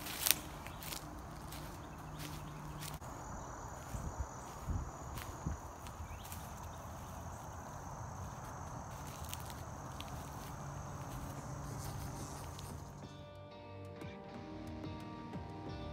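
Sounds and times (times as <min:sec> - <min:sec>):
faint footsteps: 0:00.0 - 0:13.1
insects droning: 0:00.0 - 0:13.2.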